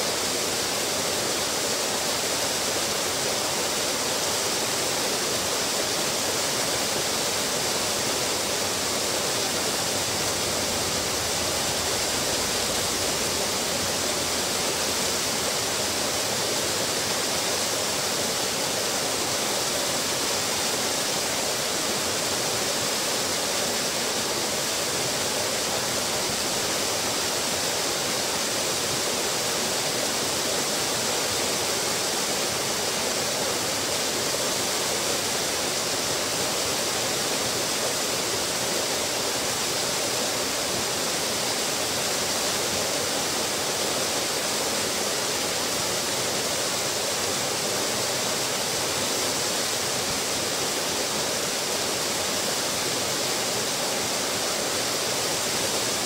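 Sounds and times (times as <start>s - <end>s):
waterfall splashing into pool: 0.0s - 56.0s.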